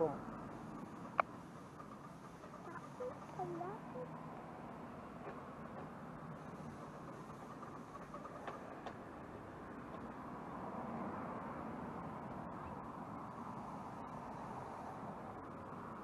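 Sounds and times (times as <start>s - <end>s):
miniature locomotive running: 0.0s - 16.0s.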